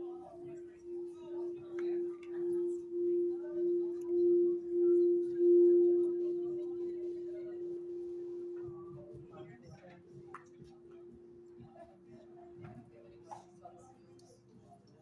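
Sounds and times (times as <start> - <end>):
crystal singing bowl tone: 0.0 - 12.6.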